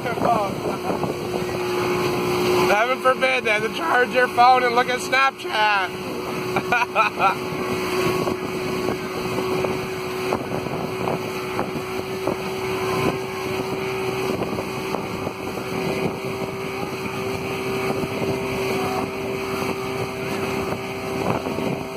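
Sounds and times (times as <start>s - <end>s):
wind noise on microphone: 0.0s - 2.8s, 5.9s - 21.9s
boat motor humming: 0.0s - 21.9s.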